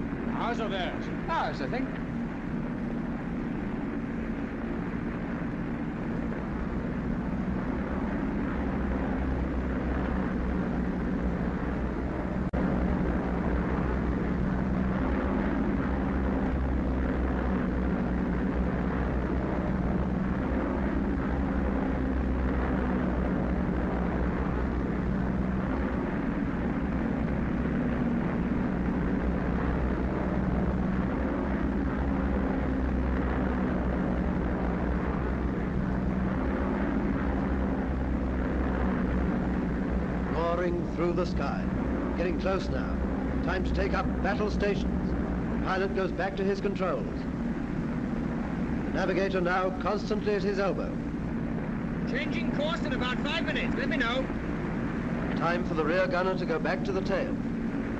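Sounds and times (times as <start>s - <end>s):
propeller engines droning: 0.0s - 57.9s.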